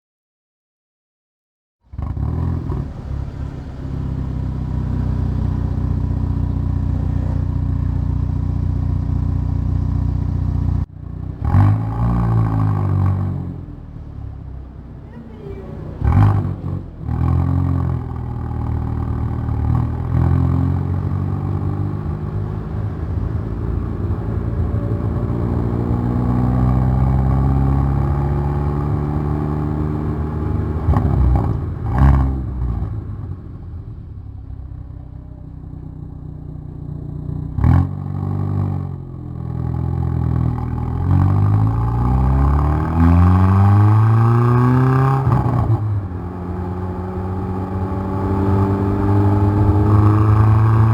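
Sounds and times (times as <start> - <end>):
car engine accelerating hard: 1.9 - 50.9.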